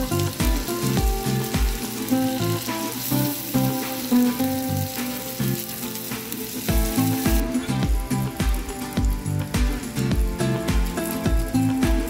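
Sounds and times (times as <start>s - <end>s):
food sizzling on hot plate: 0.0s - 12.0s
music with bass beat: 0.0s - 12.0s.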